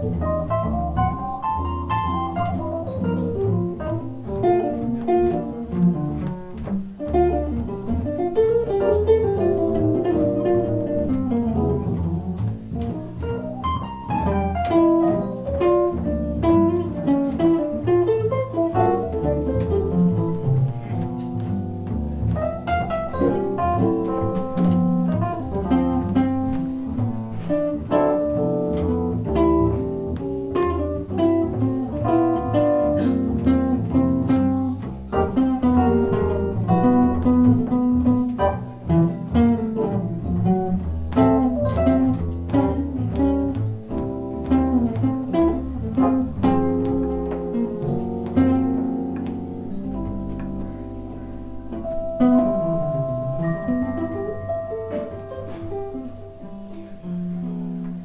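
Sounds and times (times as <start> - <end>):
electric guitar melody: 0.0 - 58.0
piano accompaniment: 0.0 - 58.0
plucked double bass: 0.0 - 58.0.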